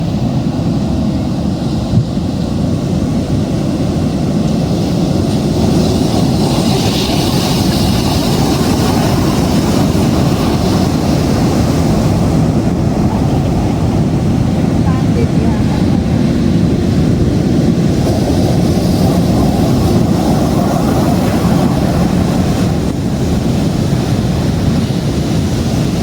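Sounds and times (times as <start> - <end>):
hissing wash of waves: 0.0 - 26.0
rough sea rumble: 0.0 - 26.0
strong wind: 0.0 - 26.0.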